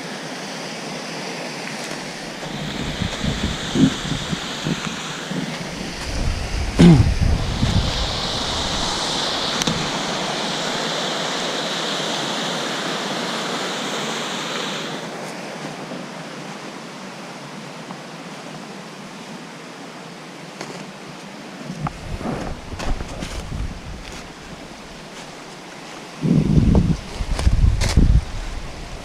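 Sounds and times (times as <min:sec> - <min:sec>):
small waterfall rushing: 0:00.0 - 0:29.0.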